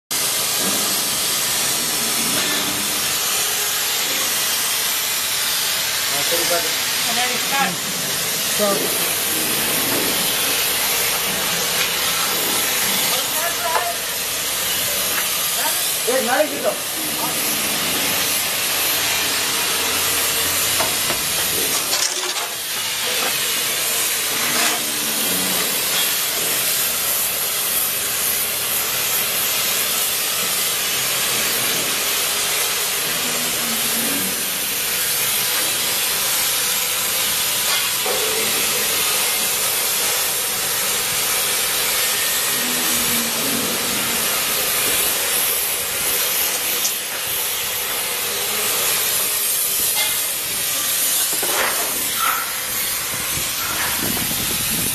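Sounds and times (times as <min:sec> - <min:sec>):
spray gun hissing: 0:00.2 - 0:21.9, 0:22.5 - 0:54.9.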